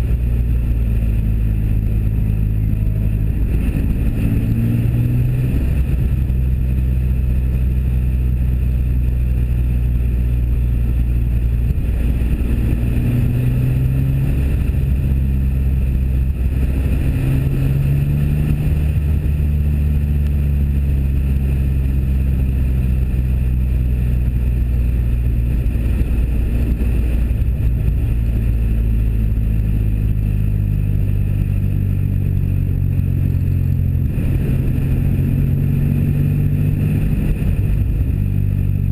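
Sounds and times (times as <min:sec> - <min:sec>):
car engine and exhaust running: 0:00.0 - 0:38.9
wind buffeting microphone: 0:00.0 - 0:38.9.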